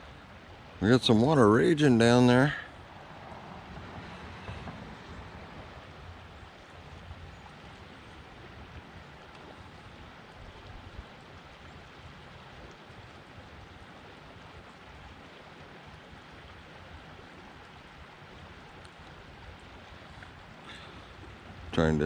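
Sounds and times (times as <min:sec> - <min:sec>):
rushing floodwater: 0:00.0 - 0:22.0.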